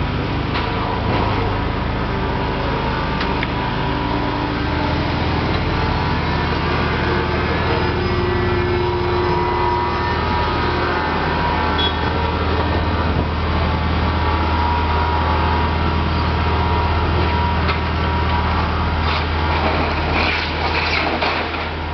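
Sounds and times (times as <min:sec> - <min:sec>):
machine engine droning: 0:00.0 - 0:21.9.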